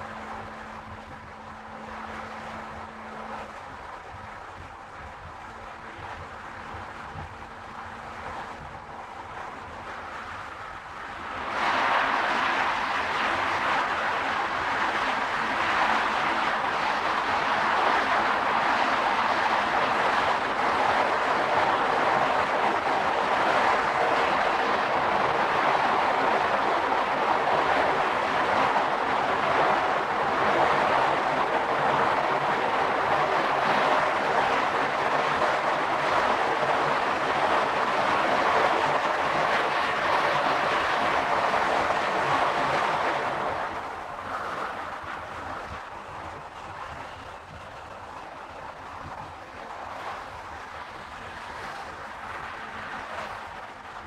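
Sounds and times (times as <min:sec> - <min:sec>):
car road and tyre noise: 0:00.0 - 0:54.0.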